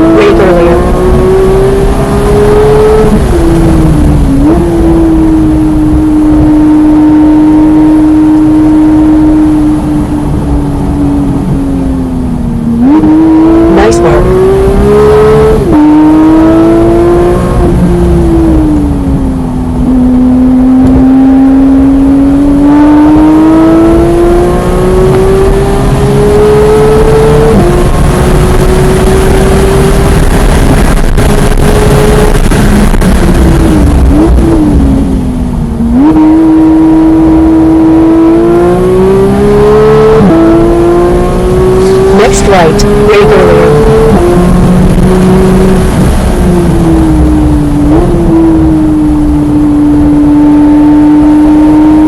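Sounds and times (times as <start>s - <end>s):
racing car engine revving: 0.0s - 10.1s, 12.8s - 19.0s, 19.8s - 35.2s, 35.8s - 52.0s.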